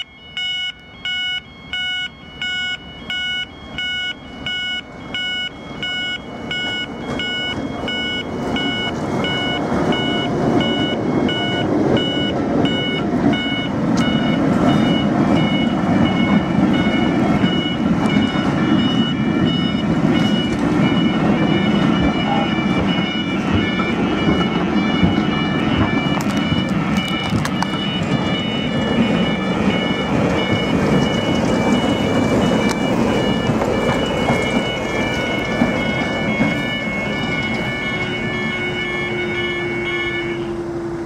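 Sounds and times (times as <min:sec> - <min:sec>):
level crossing alarms beeping: 0:00.0 - 0:41.0
train engine and wheels rumbling: 0:00.0 - 0:41.0.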